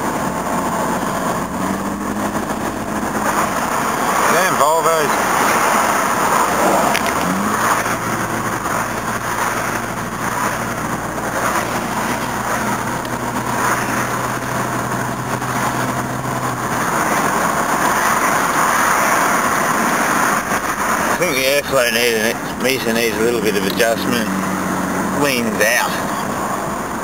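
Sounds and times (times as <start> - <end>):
car engine humming: 0.0 - 27.0
road noise inside car: 0.0 - 27.0.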